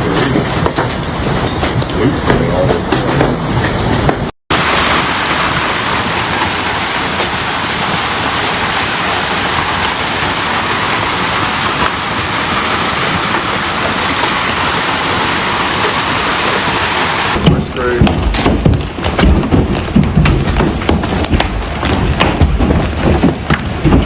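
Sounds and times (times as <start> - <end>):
heavy rain downpour: 0.0 - 23.8.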